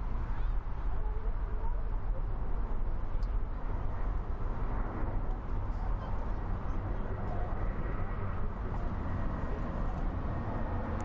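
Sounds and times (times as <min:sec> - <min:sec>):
jet aircraft rumble: 0:00.0 - 0:11.0.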